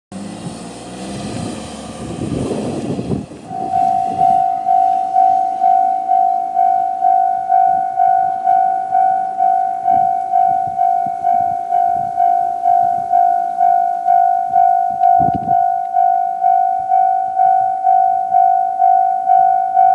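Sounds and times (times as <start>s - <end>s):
steady noise: 0.3s - 19.9s
level-crossing warning bell: 3.4s - 19.9s.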